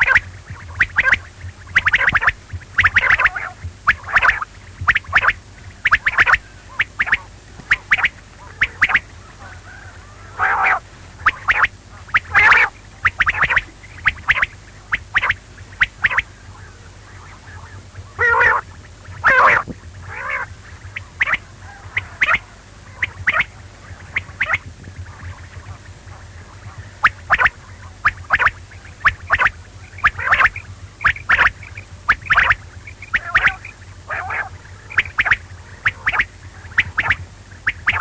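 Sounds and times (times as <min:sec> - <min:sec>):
quail calling: 0:00.0 - 0:38.0.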